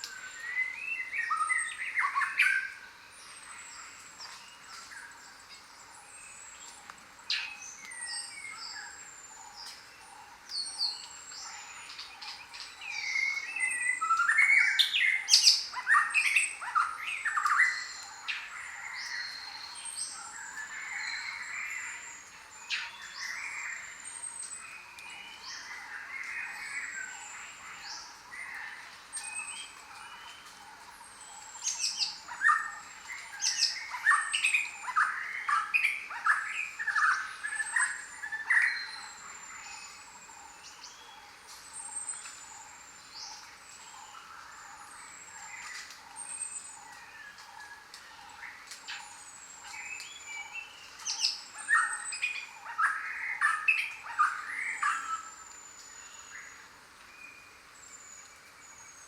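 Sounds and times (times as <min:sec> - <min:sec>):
many birds calling: 0:06.8 - 0:56.8.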